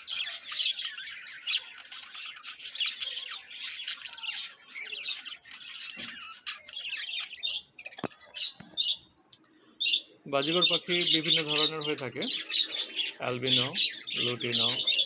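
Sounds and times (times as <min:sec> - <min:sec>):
budgerigars chirping and squawking: 0:00.0 - 0:09.1, 0:09.8 - 0:15.0.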